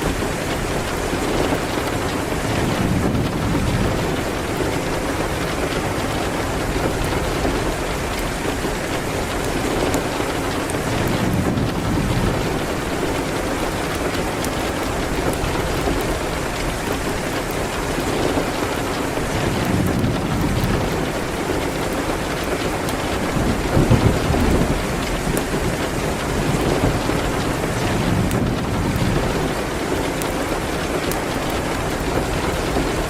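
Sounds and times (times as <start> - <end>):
rain on a window: 0.0 - 33.0.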